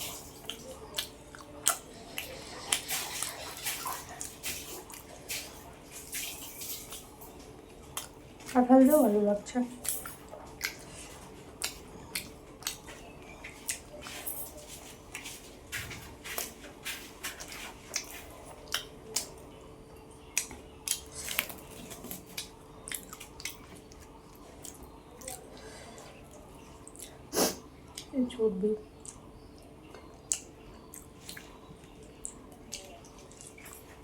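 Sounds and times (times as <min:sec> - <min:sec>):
person chewing food: 0:00.0 - 0:06.1, 0:06.8 - 0:08.6, 0:09.8 - 0:19.5, 0:20.2 - 0:28.1, 0:28.9 - 0:34.0.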